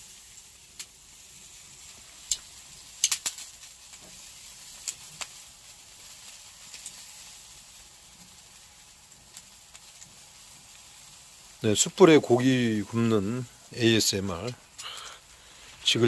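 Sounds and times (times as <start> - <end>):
fat popping and coals crackling: 0.0 - 16.0
meat sizzling over charcoal: 0.0 - 16.0.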